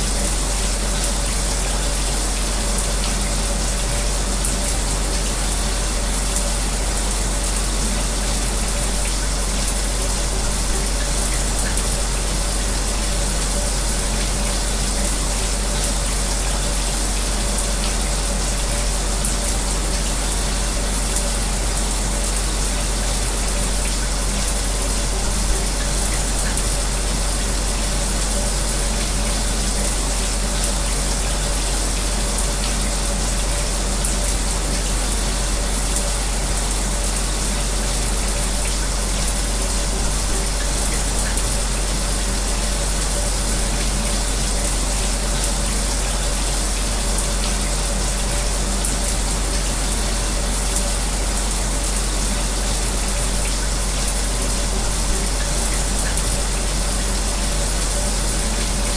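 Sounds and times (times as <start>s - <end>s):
shower spray running: 0.0s - 58.9s.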